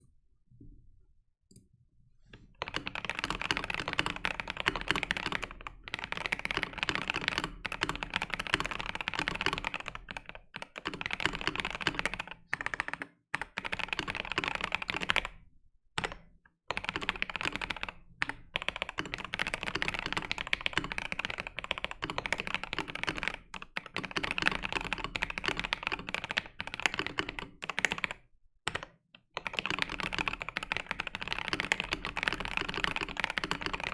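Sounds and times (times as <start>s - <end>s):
mechanical keyboard typing: 2.6s - 15.4s, 16.0s - 33.9s.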